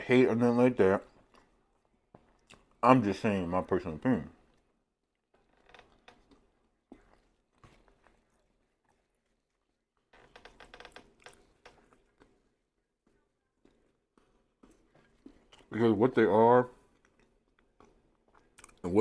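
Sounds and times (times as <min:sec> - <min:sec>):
chewing food with mouth clicks: 0:01.0 - 0:02.8, 0:04.4 - 0:15.8, 0:16.7 - 0:19.0.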